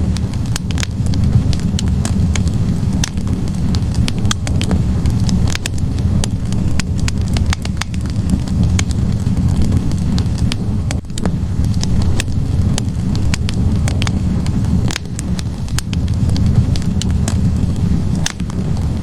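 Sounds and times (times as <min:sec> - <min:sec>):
logs burning with crackles: 0:00.0 - 0:19.0.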